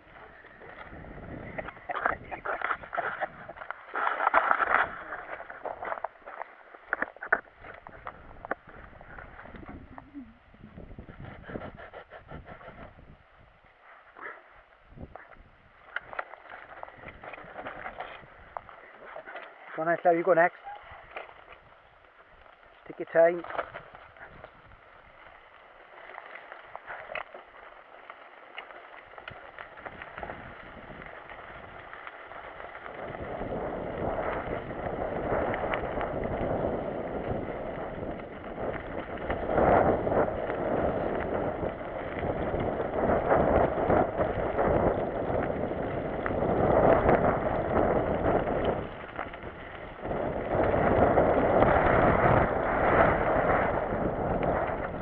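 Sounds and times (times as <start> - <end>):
bike rattling over dirt trail: 0.0 - 55.0
wind buffeting microphone: 0.0 - 55.0.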